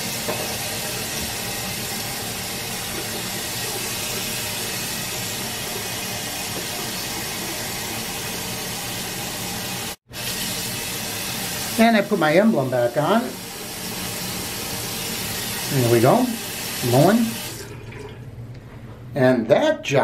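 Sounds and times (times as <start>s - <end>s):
faucet water pouring into sink: 0.0s - 18.3s.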